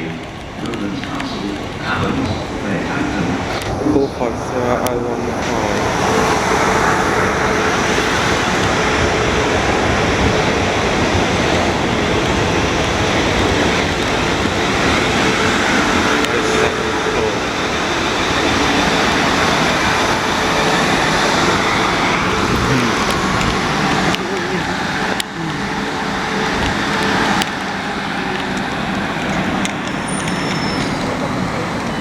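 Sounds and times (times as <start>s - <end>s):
electric train rumbling: 0.0s - 32.0s
faint steady whine: 0.0s - 32.0s.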